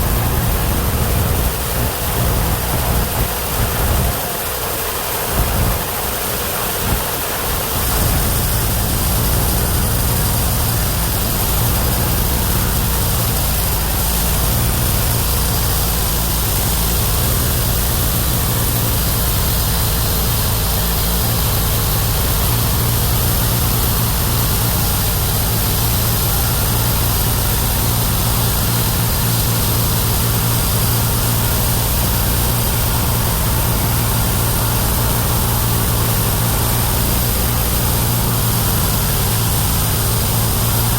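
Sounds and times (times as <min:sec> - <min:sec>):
sawmill engine droning: 0:00.0 - 0:40.9.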